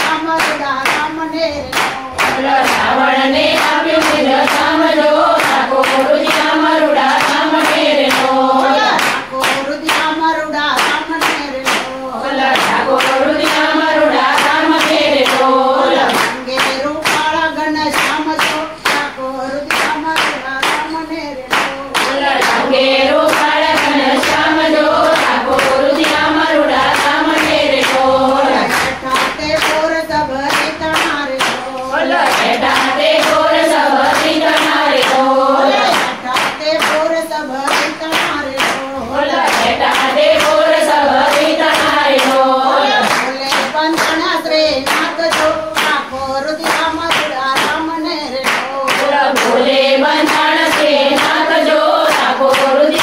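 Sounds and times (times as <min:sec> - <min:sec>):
handclaps: 0:00.0 - 0:53.0
women singing devotional song: 0:00.0 - 0:53.0.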